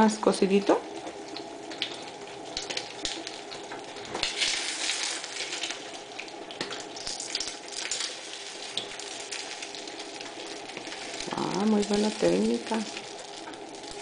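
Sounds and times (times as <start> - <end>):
eggs sizzling in hot oil: 0.0 - 14.0.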